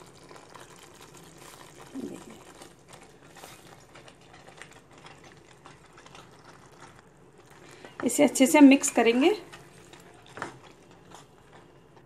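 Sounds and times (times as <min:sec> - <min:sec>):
gravy crackling in a pan: 0:00.0 - 0:12.0.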